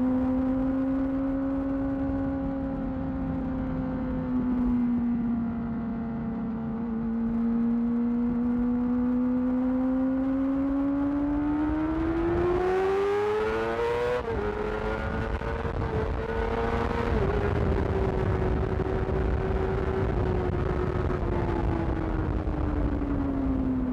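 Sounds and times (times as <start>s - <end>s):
motorcycle engine accelerating: 0.0s - 23.9s.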